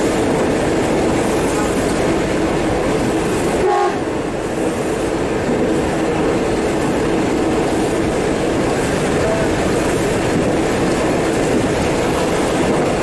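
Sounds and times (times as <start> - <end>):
train rushing in heavy rain: 0.0 - 13.0.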